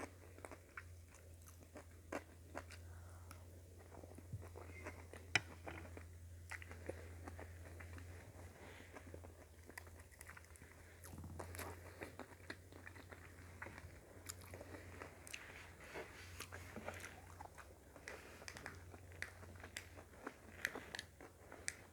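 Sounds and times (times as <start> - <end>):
person chewing close up: 0.0 - 21.9
steady low hum: 0.0 - 21.9.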